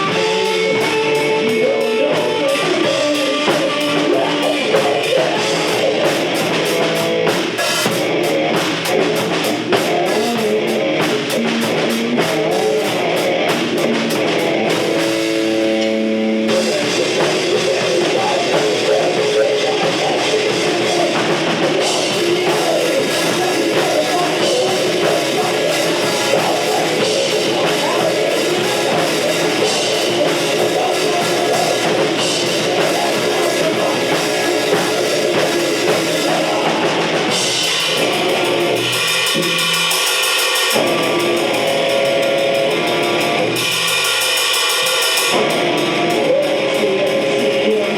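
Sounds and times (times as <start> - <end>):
fast drum kit beats: 0.0 - 47.9
rock band playing: 0.0 - 47.9.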